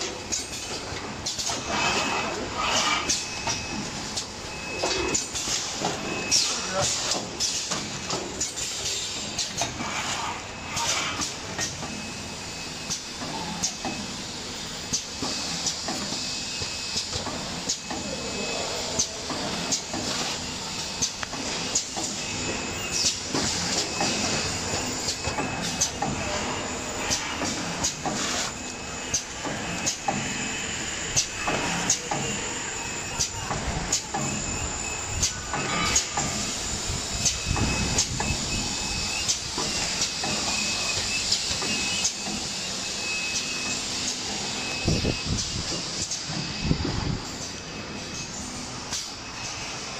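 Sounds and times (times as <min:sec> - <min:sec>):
cartoning machine whirring: 0:00.0 - 0:49.9.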